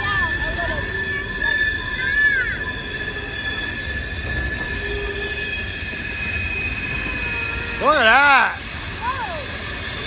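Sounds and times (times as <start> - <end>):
train wheels squealing: 0.0 - 10.0.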